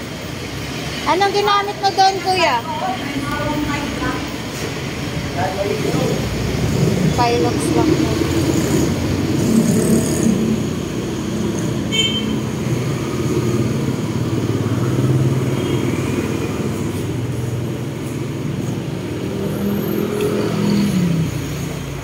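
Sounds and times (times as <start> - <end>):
motor traffic: 0.0 - 22.0.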